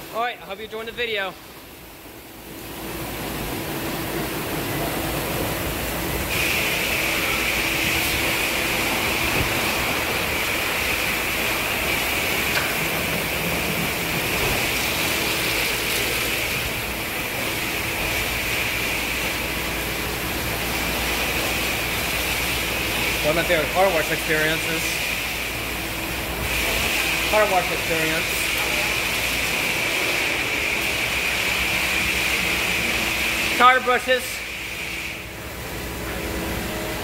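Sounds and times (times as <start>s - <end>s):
water spraying: 0.0s - 37.0s.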